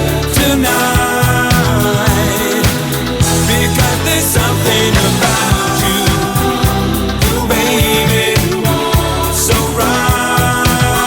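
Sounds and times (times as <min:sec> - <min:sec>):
bass: 0:00.0 - 0:11.0
person singing: 0:00.0 - 0:11.0
steady drum beat: 0:00.0 - 0:11.0.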